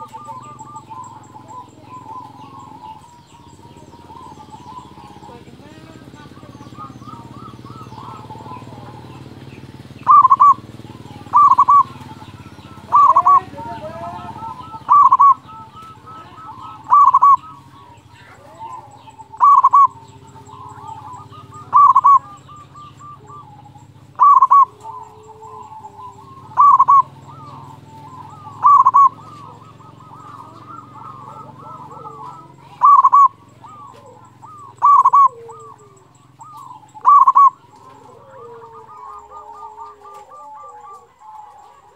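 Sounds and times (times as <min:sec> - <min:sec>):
dove cooing: 0:00.0 - 0:41.9
faint bird chirping and trilling: 0:00.0 - 0:41.9.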